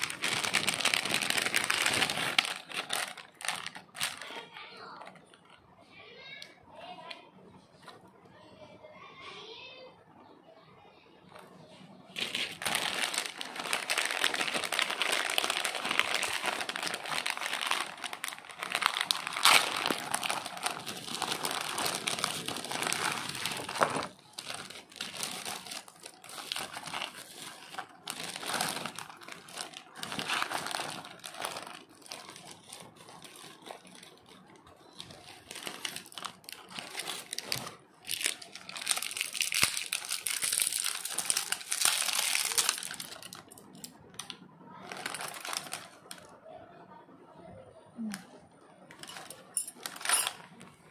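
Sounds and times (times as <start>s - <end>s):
plastic wrap crinkling: 0.0s - 6.4s, 11.3s - 46.4s, 48.9s - 50.9s.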